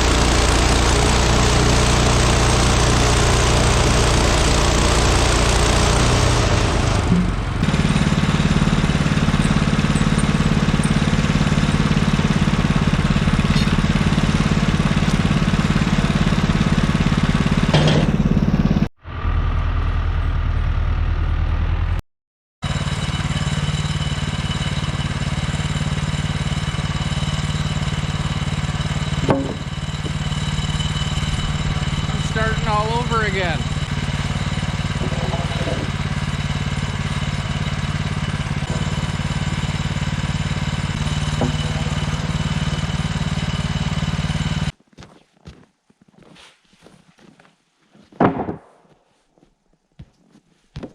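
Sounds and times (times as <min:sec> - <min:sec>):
engine running: 0:00.0 - 0:22.0, 0:22.6 - 0:44.8.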